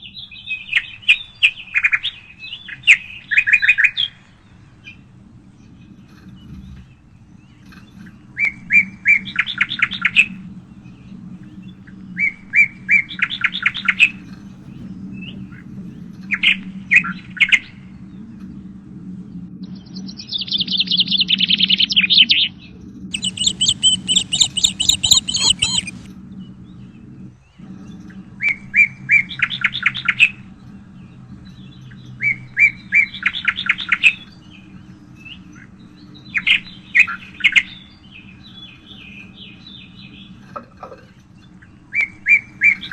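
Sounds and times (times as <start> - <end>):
songbirds singing: 0.0 - 16.3, 23.1 - 28.4, 29.2 - 42.9.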